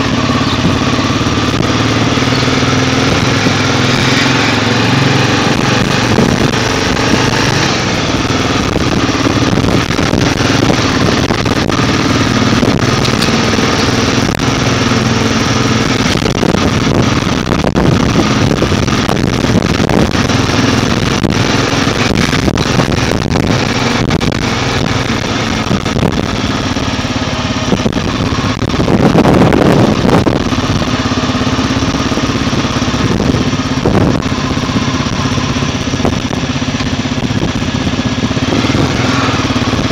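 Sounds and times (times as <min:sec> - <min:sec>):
motorcycle engine cruising: 0:00.0 - 0:39.9
wind rushing noise: 0:00.0 - 0:39.9.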